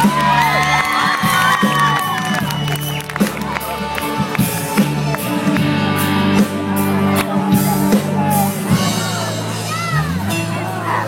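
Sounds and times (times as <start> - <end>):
bass notes: 0.0 - 11.0
guitar: 0.0 - 11.0.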